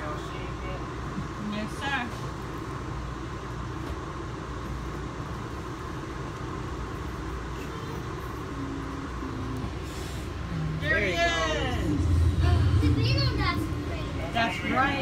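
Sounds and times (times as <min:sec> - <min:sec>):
faint constant hum: 0:00.0 - 0:15.0
train car low rumble: 0:00.0 - 0:15.0.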